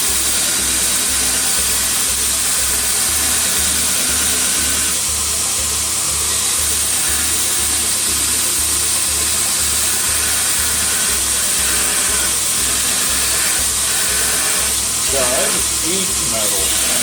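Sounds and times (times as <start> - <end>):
belt grinder grinding steel: 0.0 - 17.0
machine hum: 0.0 - 17.0.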